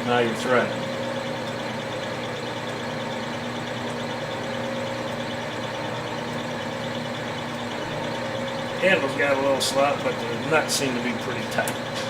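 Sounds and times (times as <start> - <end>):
lathe running: 0.0 - 12.0.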